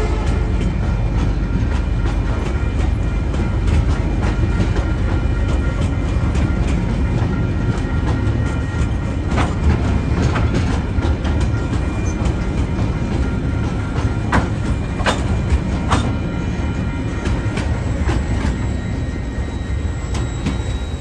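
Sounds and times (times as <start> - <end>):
freight train wagons rumbling past: 0.0 - 21.0
wheels clicking over rail joints: 0.0 - 21.0.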